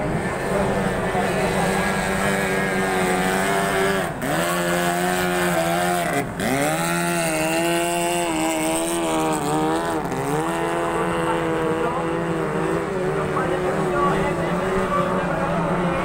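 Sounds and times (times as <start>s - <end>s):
speedboat outboard engine passing: 0.0s - 16.0s.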